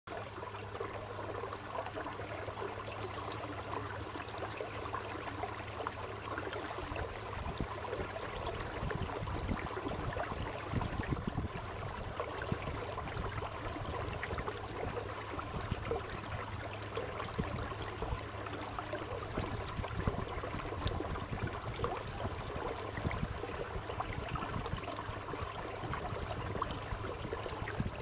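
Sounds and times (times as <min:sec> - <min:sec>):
water gurgling along hull: 0:00.1 - 0:28.0.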